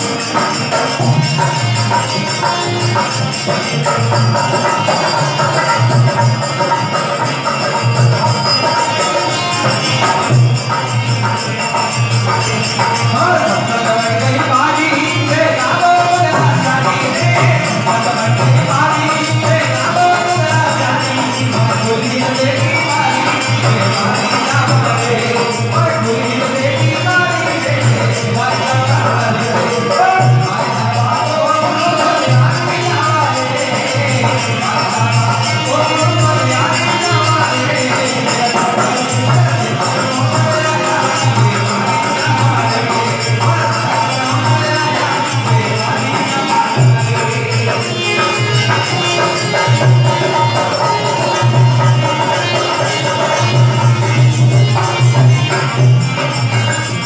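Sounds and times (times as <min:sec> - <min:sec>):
harmonium: 0:00.0 - 0:57.0
jingling metal percussion: 0:00.0 - 0:57.0
person singing: 0:00.0 - 0:57.0.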